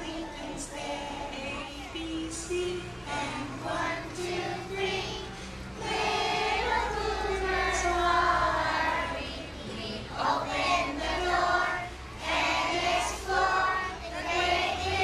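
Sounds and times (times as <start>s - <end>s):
children singing: 0.0s - 15.0s
woman singing: 0.0s - 15.0s.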